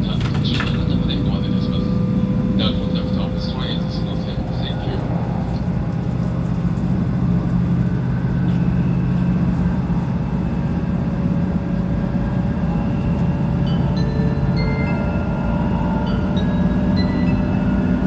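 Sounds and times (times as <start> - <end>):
train cabin rumble and hum: 0.0 - 18.0.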